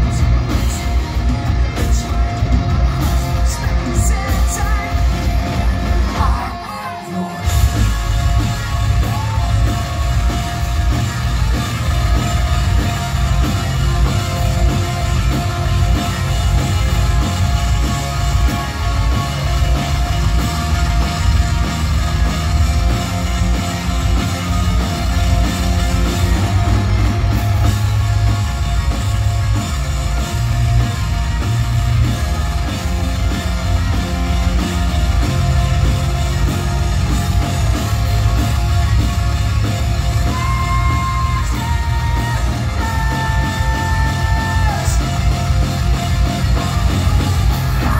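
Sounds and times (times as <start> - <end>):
live rock band playing loud: 0.0 - 47.9.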